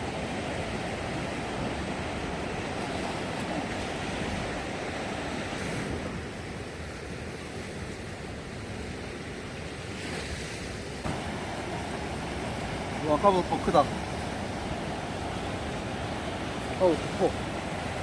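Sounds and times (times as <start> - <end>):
sea waves washing onto beach: 0.0 - 18.0.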